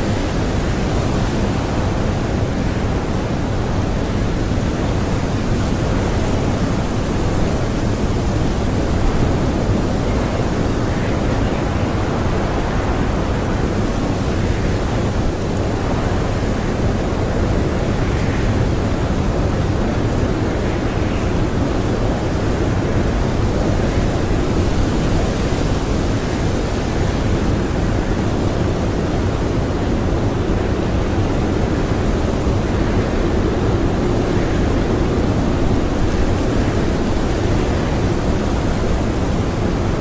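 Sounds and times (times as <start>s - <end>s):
blizzard wind howling: 0.0s - 40.0s.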